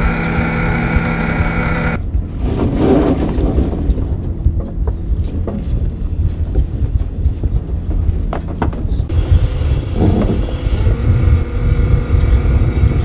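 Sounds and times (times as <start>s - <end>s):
low engine rumble: 0.0s - 13.0s
machinery hum and whine: 0.0s - 13.0s.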